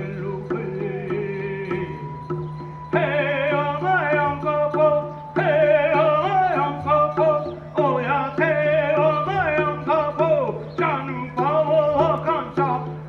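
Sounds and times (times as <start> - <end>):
ornamented melody over low drone: 0.0 - 13.0.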